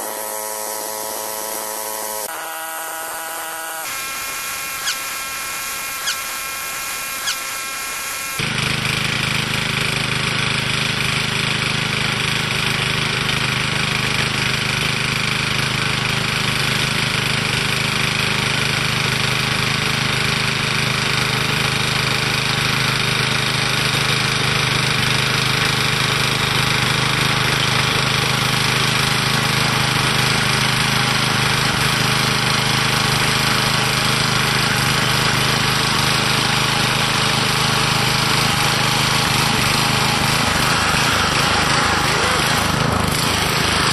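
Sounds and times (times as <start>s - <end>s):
garden tiller engine running: 0.0s - 43.9s.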